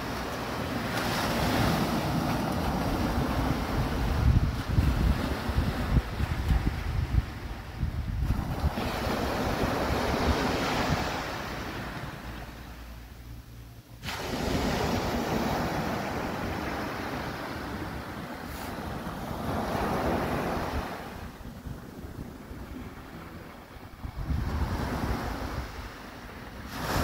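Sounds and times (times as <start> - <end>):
small waves breaking on sand: 0.0 - 12.9, 14.0 - 27.0
wind on microphone: 1.0 - 12.1, 14.0 - 27.0.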